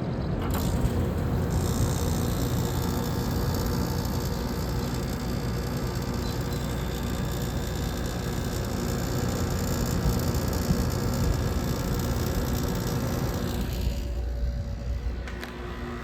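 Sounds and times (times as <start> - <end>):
air conditioner compressor hum: 0.0 - 16.0
air conditioner fan noise: 0.0 - 16.0.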